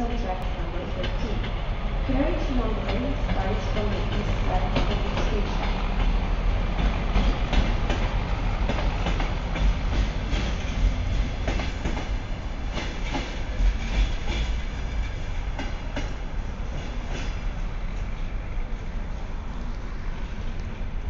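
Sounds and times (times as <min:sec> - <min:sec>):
wheels clacking over rail joints: 0:00.0 - 0:18.3
train rumbling: 0:00.0 - 0:21.0.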